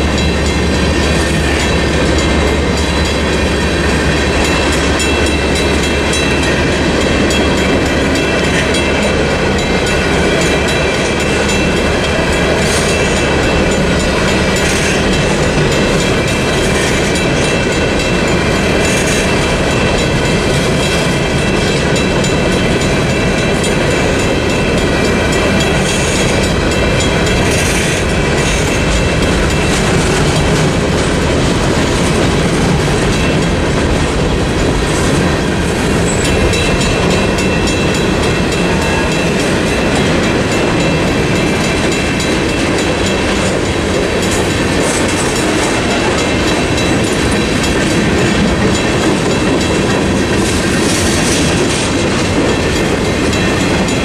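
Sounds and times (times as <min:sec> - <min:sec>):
crossing bell ringing: 0:00.0 - 0:54.0
freight train wheels clacking: 0:00.0 - 0:54.0.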